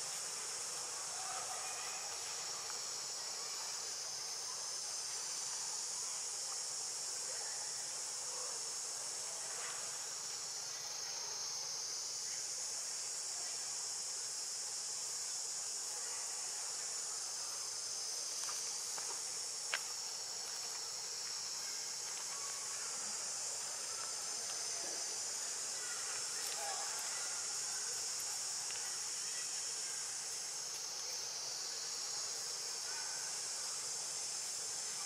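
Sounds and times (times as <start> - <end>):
high-pitched insect chorus: 0.0 - 35.0.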